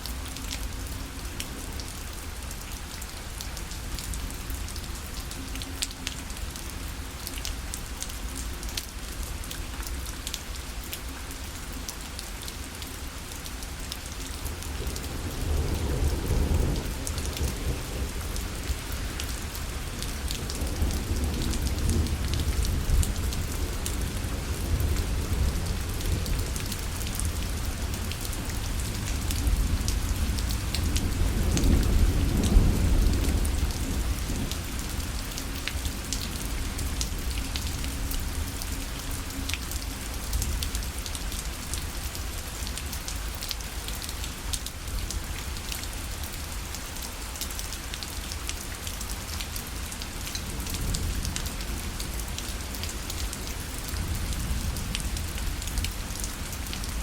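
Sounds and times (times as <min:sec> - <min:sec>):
rain pattering on fabric parasol: 0:00.0 - 0:57.0.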